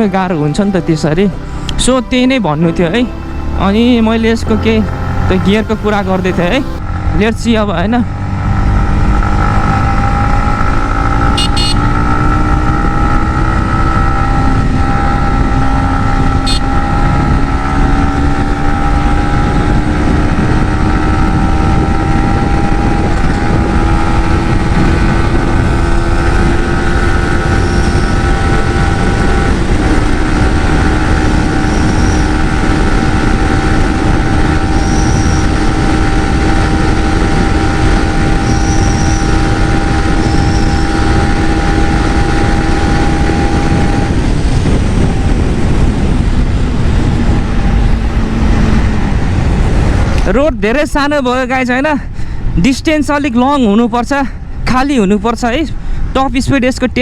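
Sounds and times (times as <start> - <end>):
wind noise rushing: 0.0 - 57.0
motorcycle engine at speed: 3.2 - 51.4.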